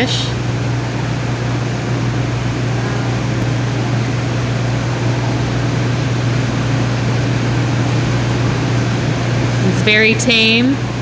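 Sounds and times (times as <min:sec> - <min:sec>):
aquarium pumps humming: 0:00.0 - 0:11.0.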